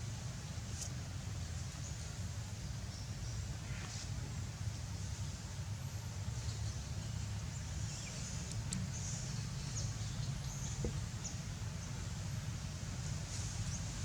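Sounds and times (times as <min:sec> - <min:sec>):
low rumble with high hiss: 0:00.0 - 0:14.0.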